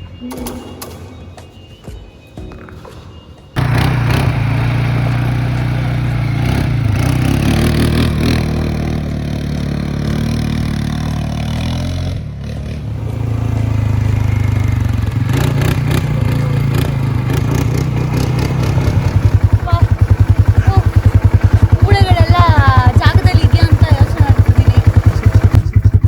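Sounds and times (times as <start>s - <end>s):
quad bike engine running: 3.6s - 26.0s.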